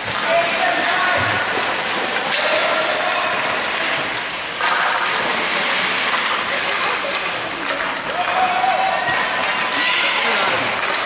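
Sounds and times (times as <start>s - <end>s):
crowd of spectators: 0.0s - 11.0s
ice skating noise: 0.0s - 11.0s.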